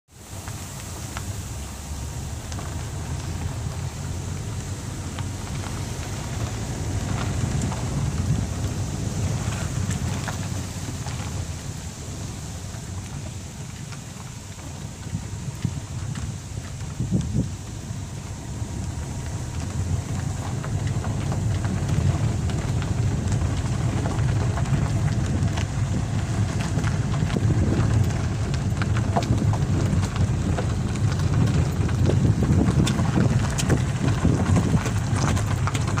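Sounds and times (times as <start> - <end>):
wind buffeting microphone: 0.4 - 36.0.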